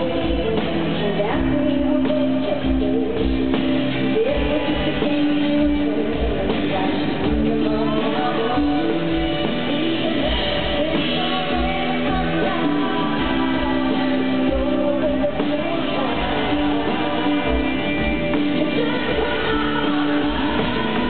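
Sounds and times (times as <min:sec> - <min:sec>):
electric guitar: 0:00.0 - 0:21.0
woman singing into a microphone: 0:00.0 - 0:21.0.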